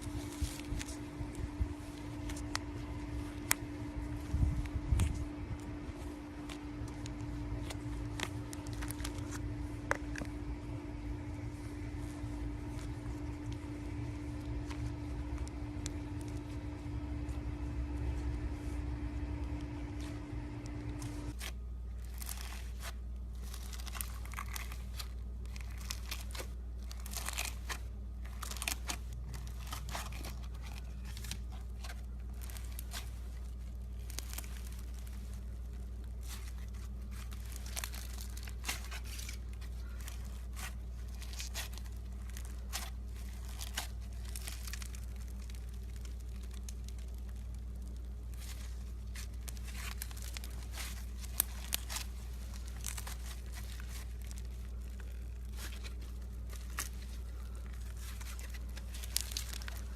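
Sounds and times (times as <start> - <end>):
slime crackling and popping: 0.0 - 59.9
steady hum with low rumble: 0.0 - 59.9.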